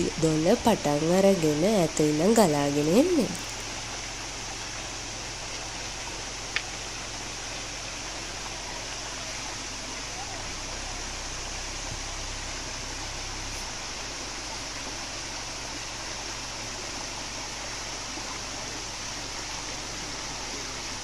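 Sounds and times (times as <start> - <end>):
stream rushing water: 0.0 - 21.0.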